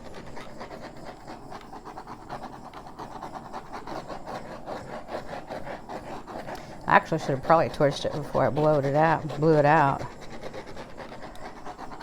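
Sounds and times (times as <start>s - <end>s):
butane torch flame hissing: 0.0s - 12.0s.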